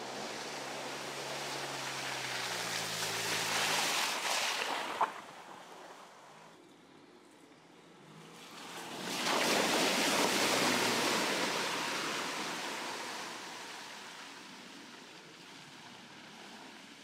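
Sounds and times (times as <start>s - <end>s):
car splashing through puddle: 0.0s - 6.5s, 8.0s - 17.0s.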